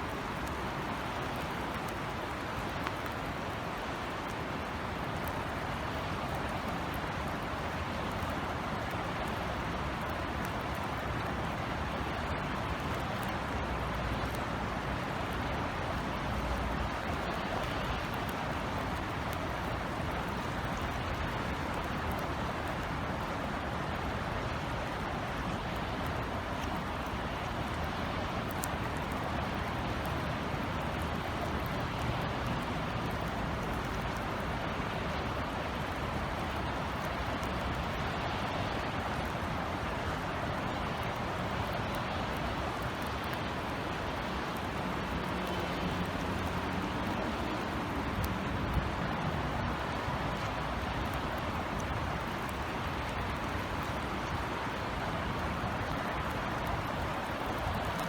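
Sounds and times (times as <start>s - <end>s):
low city rumble: 0.0s - 58.0s
rain falling: 0.0s - 58.0s.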